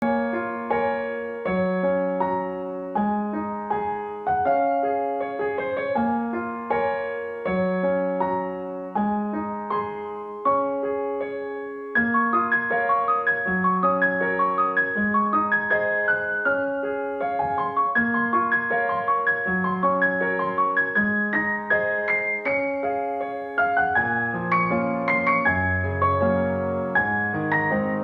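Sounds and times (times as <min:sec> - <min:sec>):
gentle piano chords: 0:00.0 - 0:28.0.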